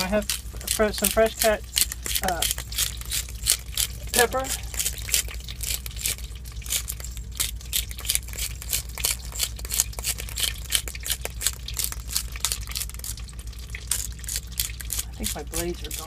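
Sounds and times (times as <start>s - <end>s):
pepper mill grinding: 0.0s - 16.0s
steady low hum: 0.0s - 16.0s.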